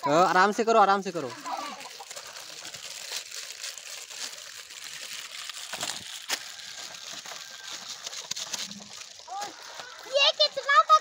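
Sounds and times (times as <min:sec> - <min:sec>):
plastic packets crinkling and tearing: 0:00.1 - 0:11.0.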